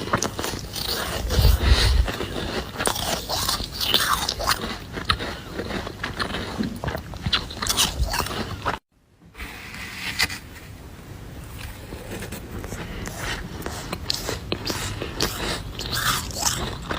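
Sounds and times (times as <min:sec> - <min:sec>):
chewing frost crunches: 0:00.0 - 0:08.8, 0:11.6 - 0:16.9.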